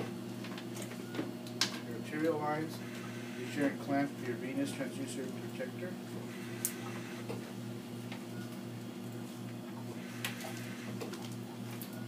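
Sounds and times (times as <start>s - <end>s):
machine pulsing low hum: 1.8s - 12.0s.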